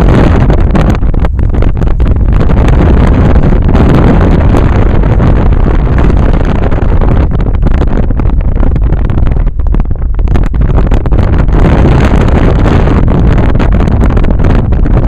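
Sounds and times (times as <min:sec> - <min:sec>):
moving car rumble: 0:00.0 - 0:15.0
wind buffeting microphone: 0:00.0 - 0:15.0.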